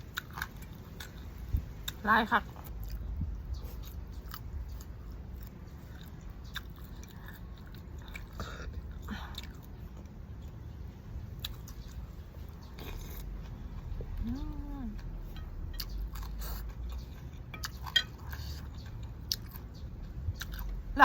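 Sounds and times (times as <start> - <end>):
person chewing noodles: 0.0 - 2.0, 2.6 - 20.9.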